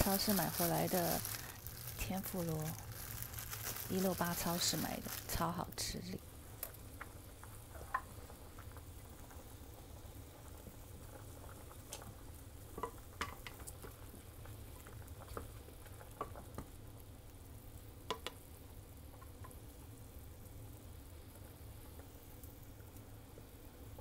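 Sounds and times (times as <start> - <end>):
water boiling in a pot: 0.0 - 24.0.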